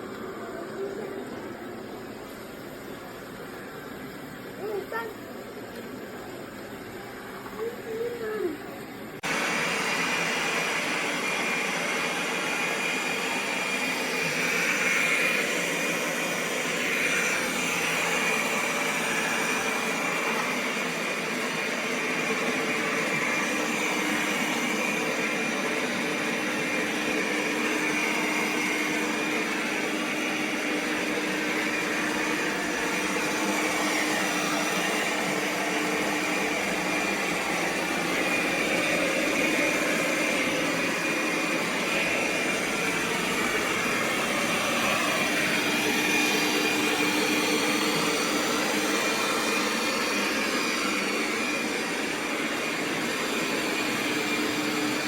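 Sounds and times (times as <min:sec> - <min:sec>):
robot vacuum motor whine: 0:09.2 - 0:55.0.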